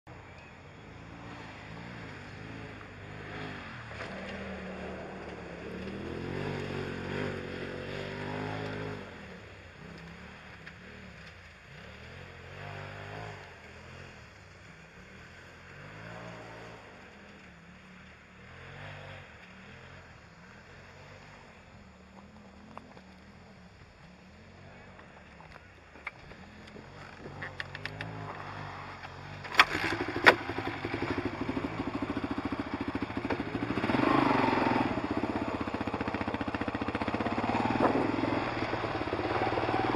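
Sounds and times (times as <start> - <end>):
atv engine revving: 0.4 - 39.9.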